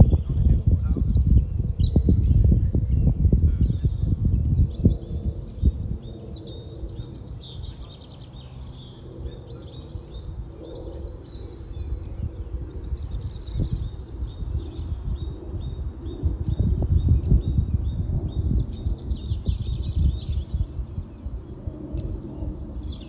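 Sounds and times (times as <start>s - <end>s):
low rumble: 0.0s - 23.0s
small birds singing: 0.0s - 23.0s.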